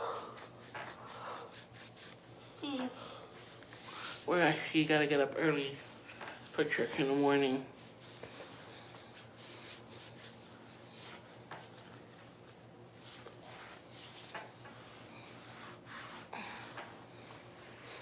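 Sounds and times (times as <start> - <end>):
rubbing and rustling: 0.0 - 2.6, 3.4 - 18.0.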